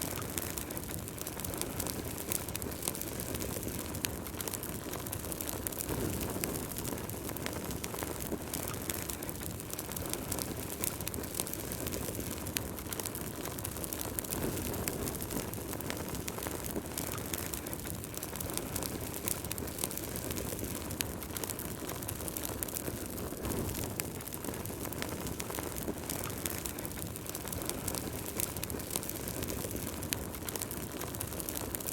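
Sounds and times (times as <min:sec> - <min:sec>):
fire crackles and pops: 0:00.0 - 0:31.9
low rush of flames: 0:00.0 - 0:31.9.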